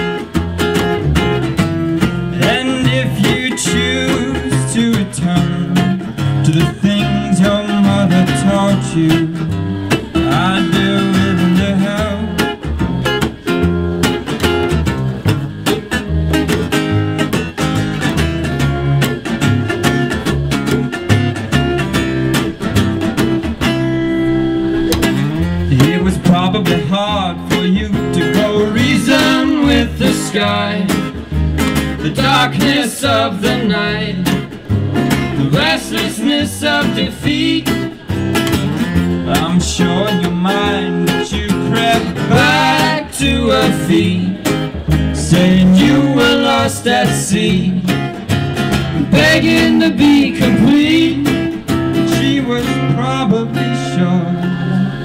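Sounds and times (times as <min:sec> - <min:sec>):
acoustic guitar: 0:00.0 - 0:55.0
plucked double bass: 0:00.0 - 0:55.0.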